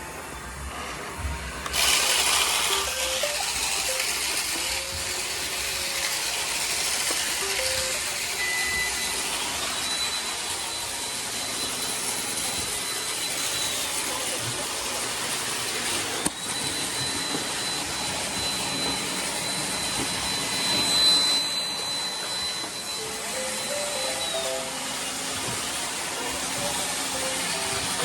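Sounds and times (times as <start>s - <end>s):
robot vacuums whirring: 0.4s - 28.0s.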